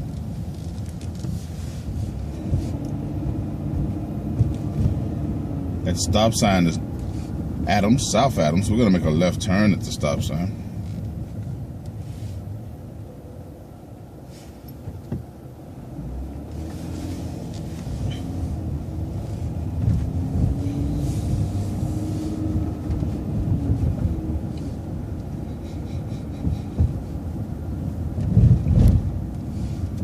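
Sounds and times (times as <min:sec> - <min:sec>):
bus engine and road rumble: 0:00.0 - 0:30.0
drivetrain whine: 0:00.0 - 0:30.0.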